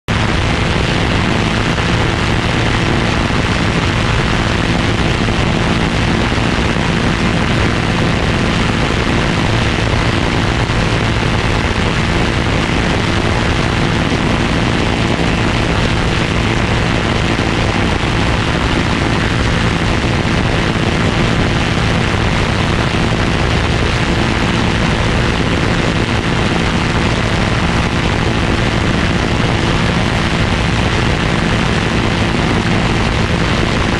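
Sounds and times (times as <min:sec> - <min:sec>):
loud rushing noise: 0:00.1 - 0:33.9
low drone: 0:00.1 - 0:33.9.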